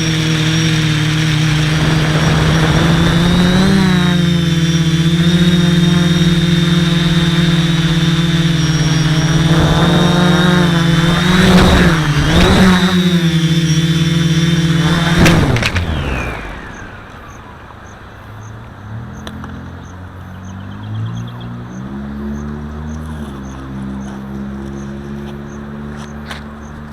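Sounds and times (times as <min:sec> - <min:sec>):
quadcopter motors whining: 0:00.0 - 0:26.9.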